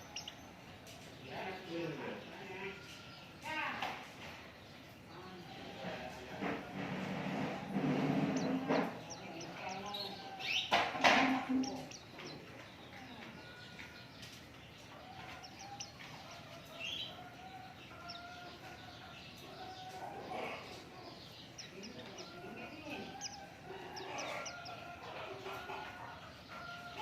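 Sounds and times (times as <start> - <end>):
small songbirds chirping: 0.0 - 27.0.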